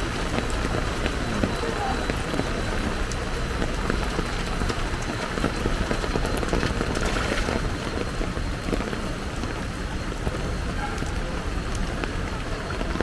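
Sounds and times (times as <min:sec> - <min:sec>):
floodwater rushing: 0:00.0 - 0:13.0
heavy rain: 0:00.0 - 0:13.0.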